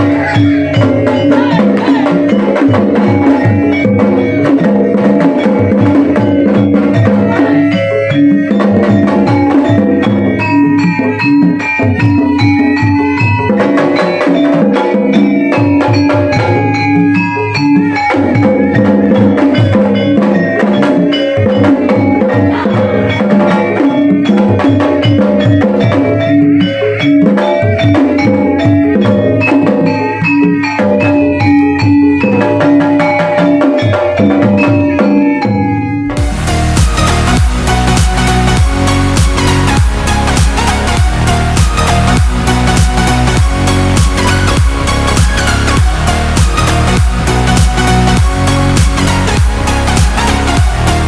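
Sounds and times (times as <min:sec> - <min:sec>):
drums: 0:00.0 - 0:51.0
metallophones and gongs struck: 0:00.0 - 0:51.0.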